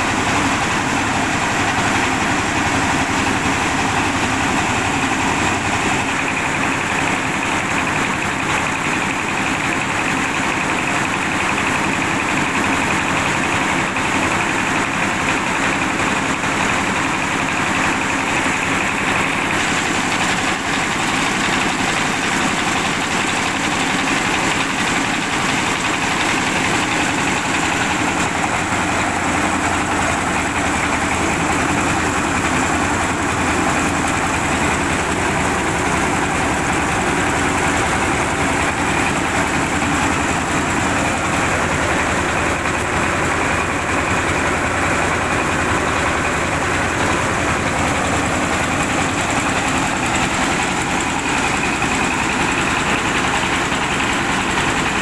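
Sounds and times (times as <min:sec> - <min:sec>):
engine-driven rice mill running: 0:00.0 - 0:55.0.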